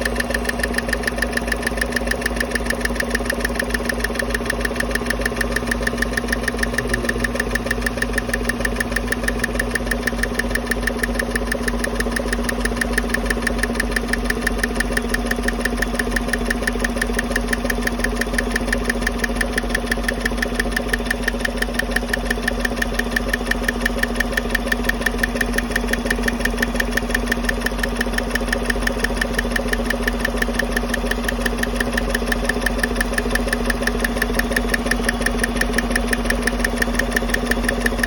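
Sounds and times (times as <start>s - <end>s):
fast valvetrain ticking: 0.0s - 38.0s
truck engine idling: 0.0s - 38.0s.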